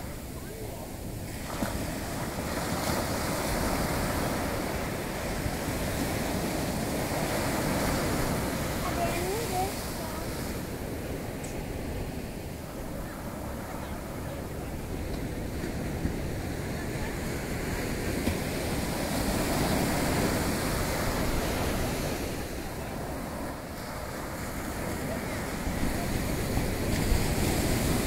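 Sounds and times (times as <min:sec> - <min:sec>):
sea surf washing up beach: 0:00.0 - 0:28.0
wind buffeting microphone: 0:00.0 - 0:28.0.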